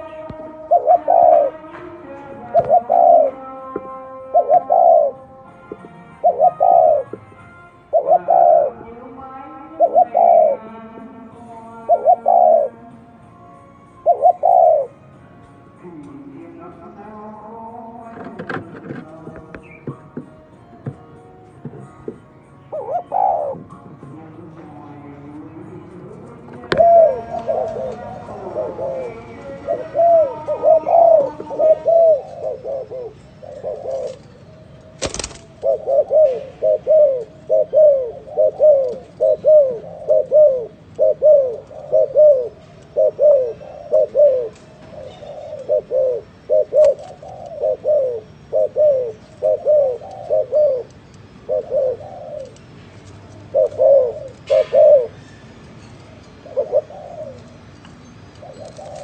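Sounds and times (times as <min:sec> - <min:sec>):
dove cooing: 0:00.0 - 0:11.0, 0:11.8 - 0:12.9, 0:13.9 - 0:15.0, 0:22.7 - 0:24.0, 0:25.0 - 0:57.7, 0:58.3 - 0:59.0.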